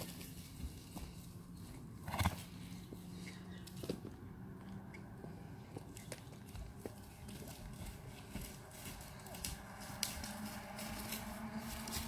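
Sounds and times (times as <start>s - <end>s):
horse hooves on turf: 0.0s - 12.0s
steady low hum: 0.0s - 12.0s.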